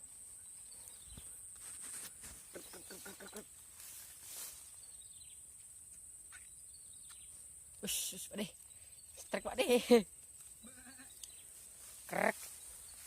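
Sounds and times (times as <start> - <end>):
insect drone: 0.0 - 13.0
rapid pulsed insect calls: 0.0 - 13.0.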